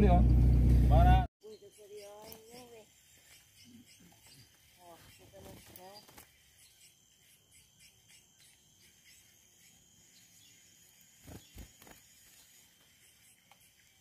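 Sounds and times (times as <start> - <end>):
insects buzzing: 1.4 - 14.0.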